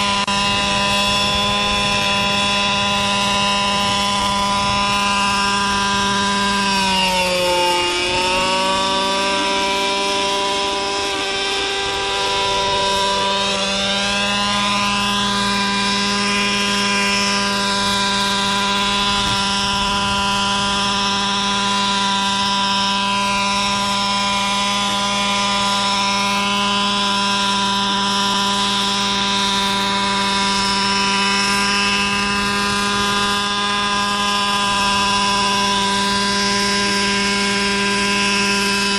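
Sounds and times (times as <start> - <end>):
model helicopter engine running: 0.0 - 38.9.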